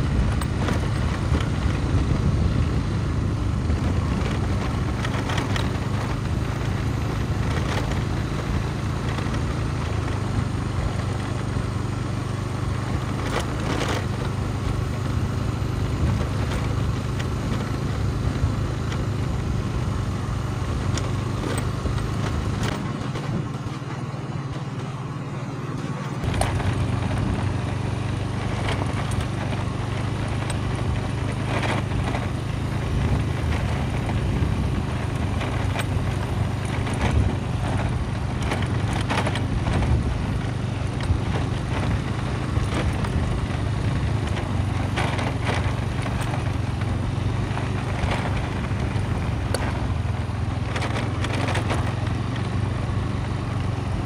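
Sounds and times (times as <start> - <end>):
knocks and rattles from bumps: 0.0 - 19.8, 20.4 - 25.0, 25.8 - 52.8
motorcycle engine running: 0.0 - 54.0.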